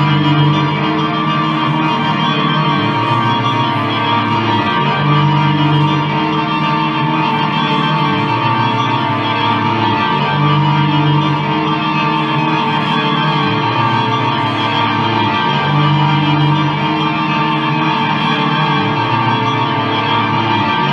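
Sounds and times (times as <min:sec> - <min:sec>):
layered guitar drone: 0:00.0 - 0:20.9.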